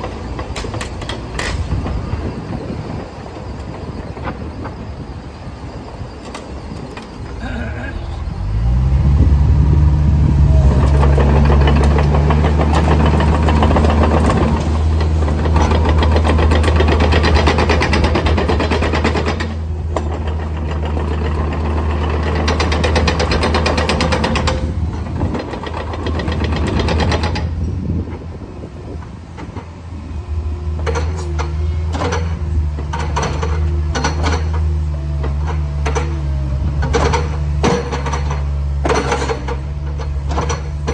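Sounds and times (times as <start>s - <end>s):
diesel engine starting and running: 0.0s - 40.9s
loud mechanical noise: 0.0s - 40.9s.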